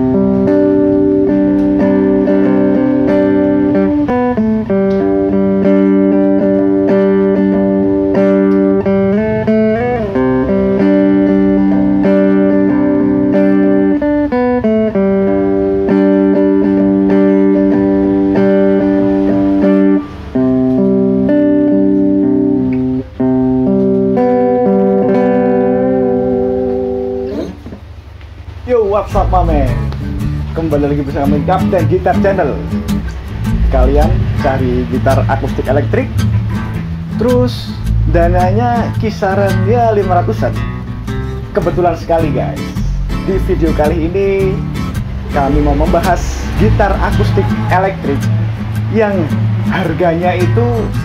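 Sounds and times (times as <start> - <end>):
fingerstyle acoustic guitar: 0.0 - 51.0.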